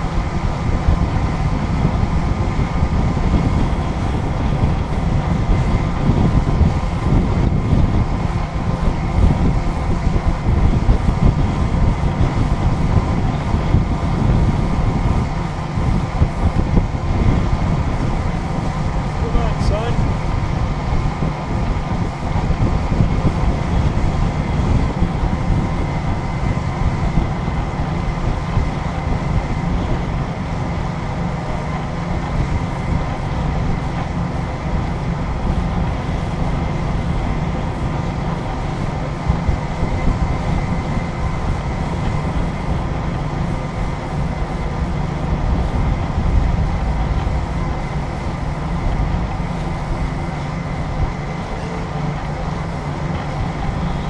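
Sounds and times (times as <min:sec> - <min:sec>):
engine drone: 0:00.0 - 0:54.0
faint steady whine: 0:00.0 - 0:54.0.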